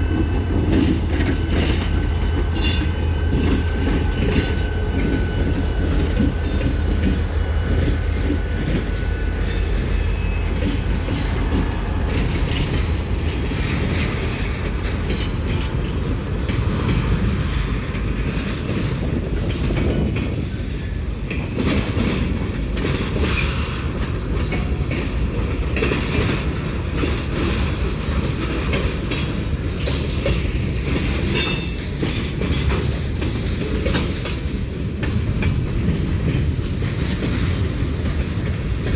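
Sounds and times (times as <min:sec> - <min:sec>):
railcars rumbling: 0:00.0 - 0:38.9
wheels and couplings clanking: 0:00.0 - 0:38.9.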